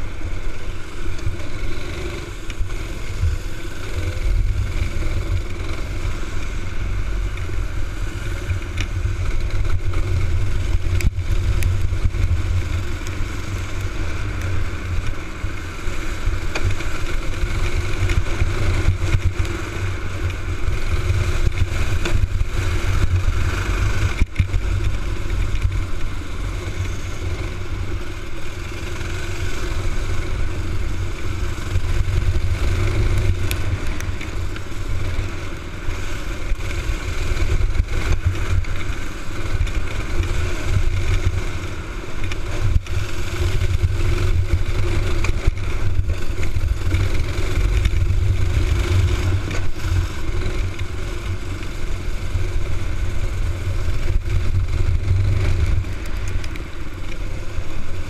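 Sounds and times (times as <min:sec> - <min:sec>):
kart engine running hard: 0:00.0 - 0:58.0
other kart engines: 0:00.0 - 0:58.0
wind rumble on microphone: 0:00.0 - 0:58.0.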